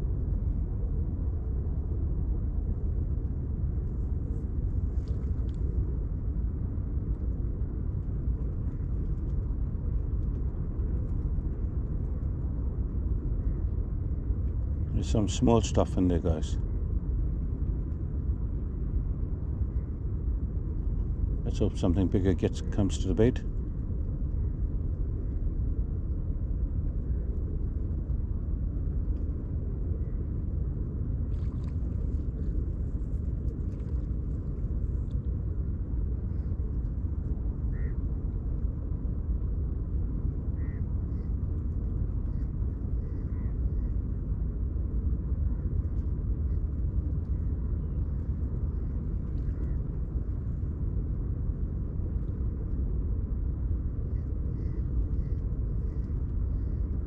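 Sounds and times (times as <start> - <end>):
low outdoor rumble: 0.0 - 57.0.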